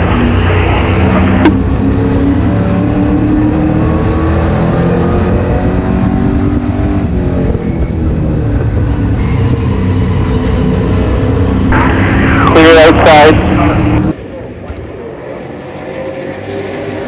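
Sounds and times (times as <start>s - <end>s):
race car engine: 0.0s - 17.0s.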